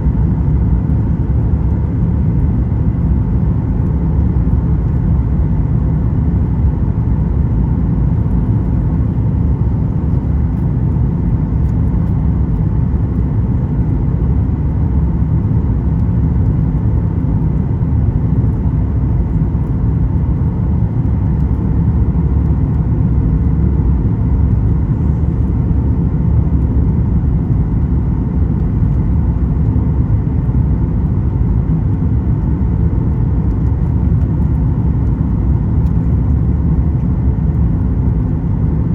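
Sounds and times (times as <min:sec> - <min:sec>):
airplane cabin roar: 0:00.0 - 0:38.9
faint steady hum: 0:00.0 - 0:38.9.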